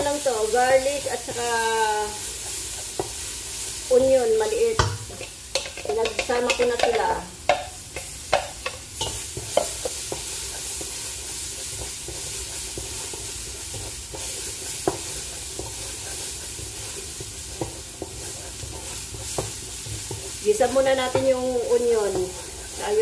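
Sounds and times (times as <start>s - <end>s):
garlic and onion sizzling: 0.0s - 23.0s
wooden spoon scraping a pot: 0.1s - 23.0s.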